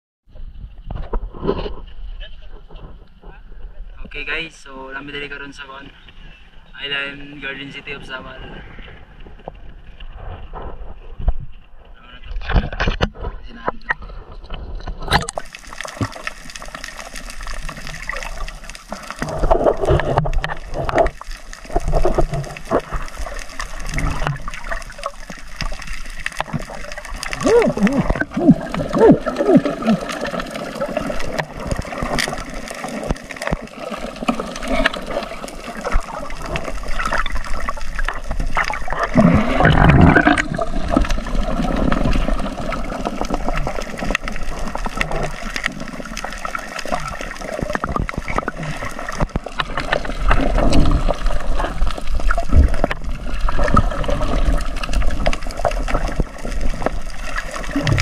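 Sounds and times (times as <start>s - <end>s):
muffled underwater wash: 0.3s - 58.0s.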